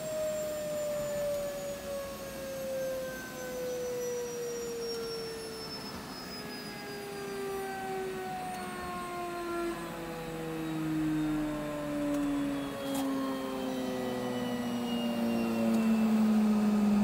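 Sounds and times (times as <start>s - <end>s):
low hum: 0.0s - 17.0s
turbine whine falling in pitch: 0.0s - 17.0s.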